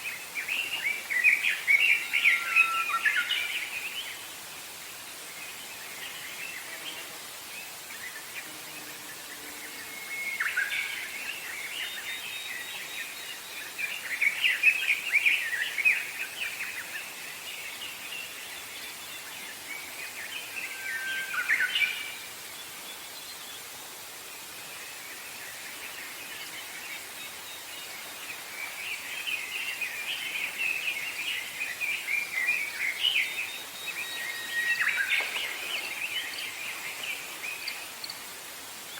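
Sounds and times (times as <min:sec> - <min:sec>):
songbirds singing: 0:00.0 - 0:23.7, 0:24.9 - 0:38.9
outdoor ambience hiss: 0:00.0 - 0:38.9.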